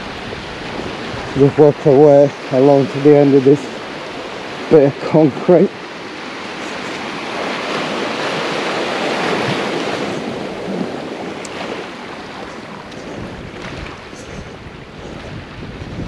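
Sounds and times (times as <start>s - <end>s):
waves washing on shore: 0.0s - 16.0s
wind buffeting microphone: 0.0s - 16.0s.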